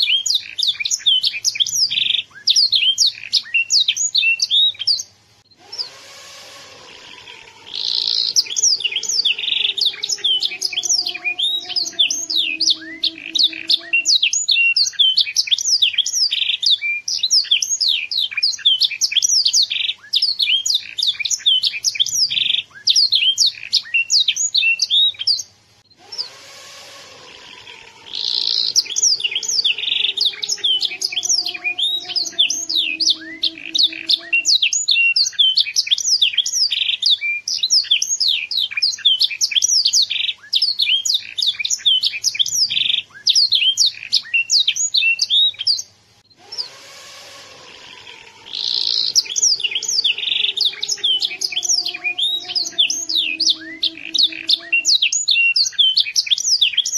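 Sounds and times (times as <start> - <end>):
canary singing: 0.0 - 56.9.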